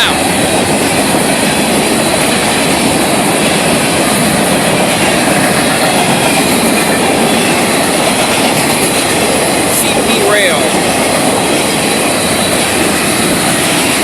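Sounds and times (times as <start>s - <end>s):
freight cars rolling on rails: 0.0s - 14.0s.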